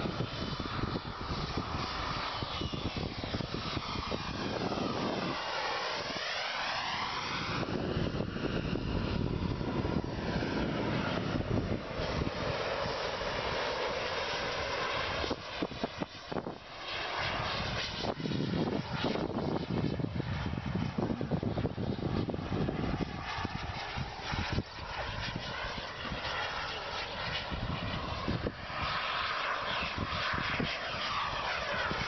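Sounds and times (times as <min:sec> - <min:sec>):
model jet flying past: 0:00.0 - 0:32.0.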